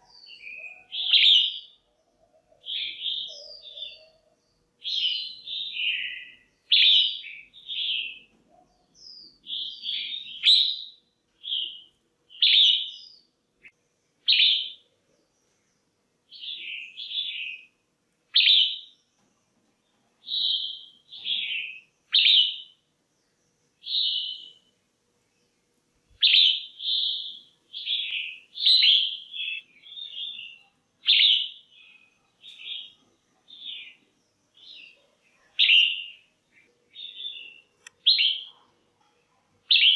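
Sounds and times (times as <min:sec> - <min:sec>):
bird chirping calls: 0:00.0 - 0:17.7, 0:18.3 - 0:19.2, 0:19.9 - 0:38.8, 0:39.7 - 0:39.9.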